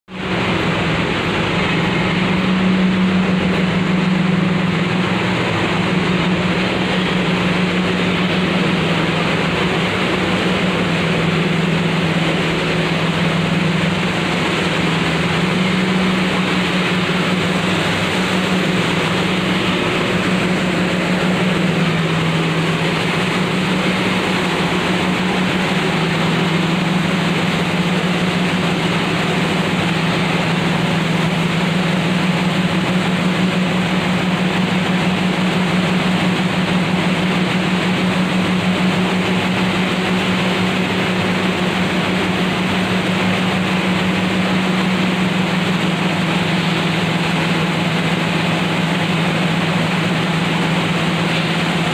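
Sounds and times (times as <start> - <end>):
grinding machine running: 0.1 - 51.9.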